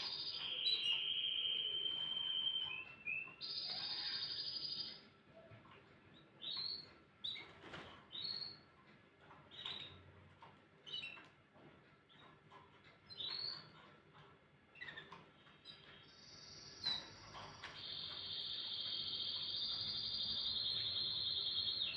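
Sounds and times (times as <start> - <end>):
canary chirping: 0.0 - 21.9.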